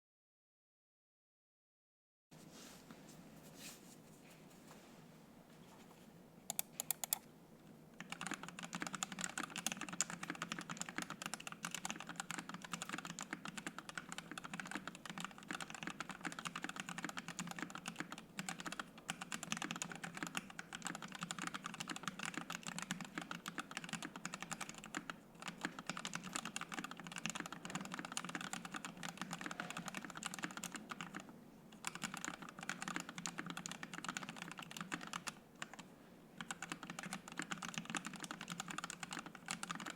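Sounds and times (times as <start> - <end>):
typing on mechanical keyboard: 6.5 - 7.2, 8.0 - 39.9.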